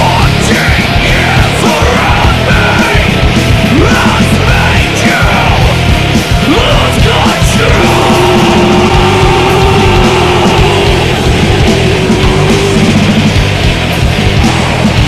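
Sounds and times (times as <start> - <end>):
heavy rock band playing: 0.0 - 15.0.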